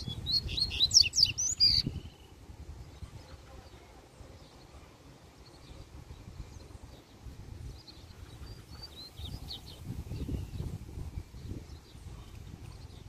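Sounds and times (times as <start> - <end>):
wind on microphone: 0.0 - 3.6, 5.6 - 13.0
faint bird chirps: 0.0 - 13.0.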